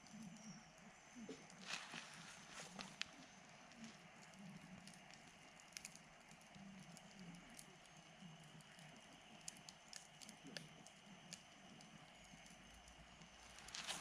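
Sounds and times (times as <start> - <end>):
campfire crackling: 0.0 - 14.0
steady fire hiss: 0.0 - 14.0.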